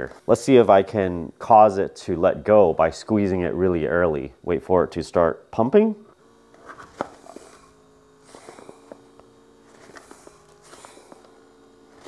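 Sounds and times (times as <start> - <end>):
electric air pump humming: 0.0 - 12.0.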